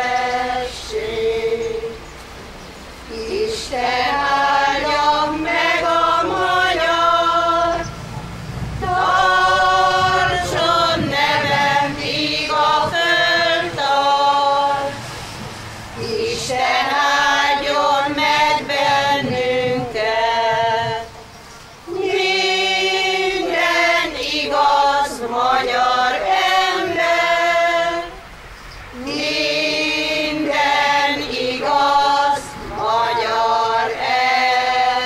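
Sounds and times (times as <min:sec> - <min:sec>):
choir singing unaccompanied: 0:00.0 - 0:35.0.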